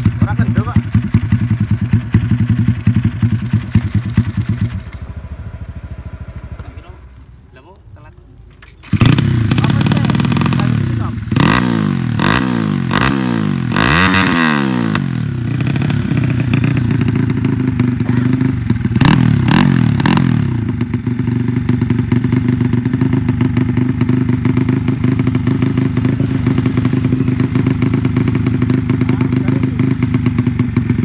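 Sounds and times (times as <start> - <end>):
motorcycle engine revving: 0.0 - 7.8, 8.4 - 31.0.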